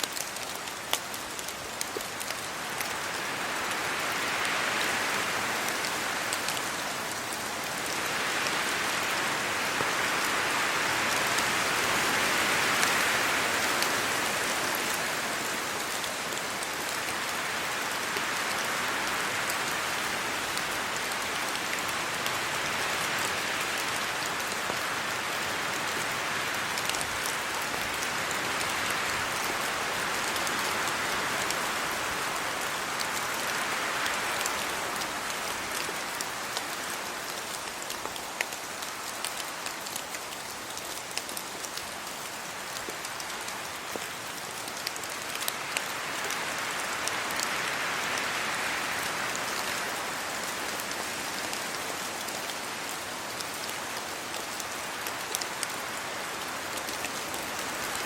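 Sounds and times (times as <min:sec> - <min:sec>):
steady rain on leaves and road: 0:00.0 - 0:58.0
wind gusts through trees: 0:00.0 - 0:58.0.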